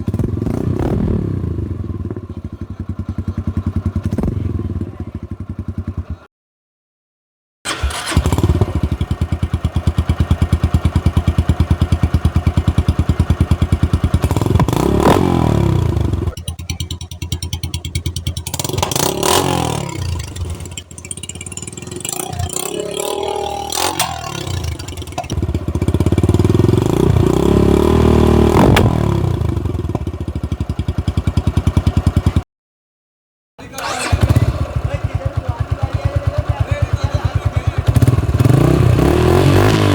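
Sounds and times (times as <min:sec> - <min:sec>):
motorcycle idling and revving: 0:00.0 - 0:06.3, 0:07.7 - 0:32.4, 0:33.6 - 0:39.9.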